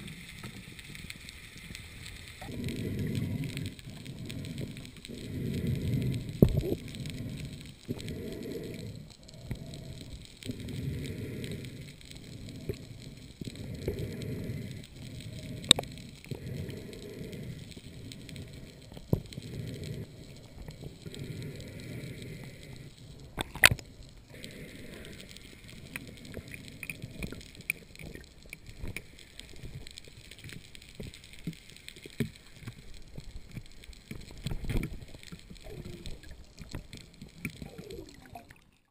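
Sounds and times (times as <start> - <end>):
underwater rushing water: 0.0 - 38.9.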